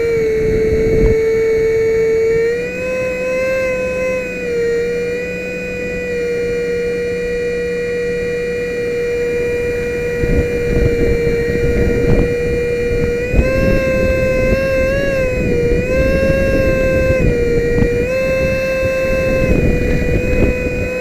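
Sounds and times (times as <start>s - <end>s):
wind buffeting microphone: 0.0s - 6.4s, 9.2s - 21.0s
electric ducted fan whining: 0.0s - 21.0s.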